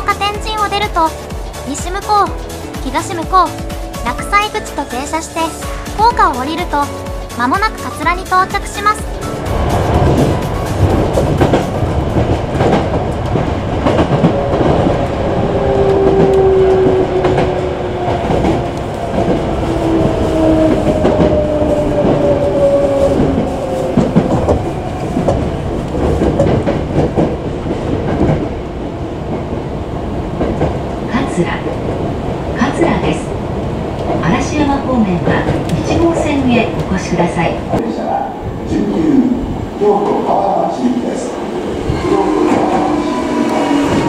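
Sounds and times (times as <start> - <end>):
rail-joint clickety-clack: 0.0 - 28.6, 30.3 - 38.0
train wheels rumbling on rails: 0.0 - 44.0.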